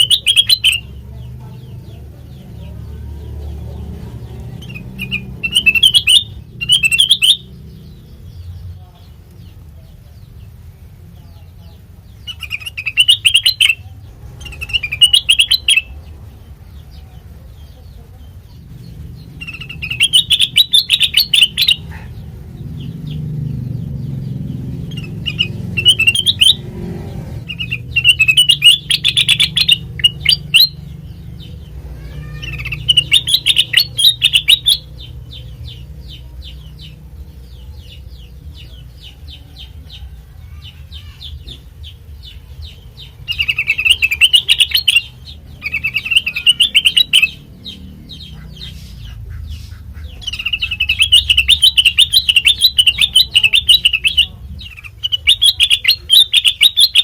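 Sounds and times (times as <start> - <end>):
bulbul chirping song: 0.0 - 57.0.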